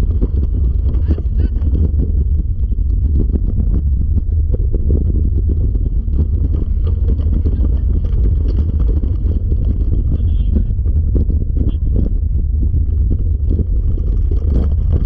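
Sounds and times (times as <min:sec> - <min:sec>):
sled wheels rumbling on dirt: 0:00.0 - 0:15.0
wind buffeting microphone: 0:00.0 - 0:15.0.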